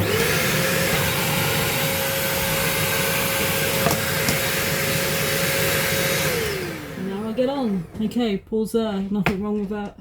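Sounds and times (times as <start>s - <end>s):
vacuum cleaner motor whining: 0.0s - 8.2s.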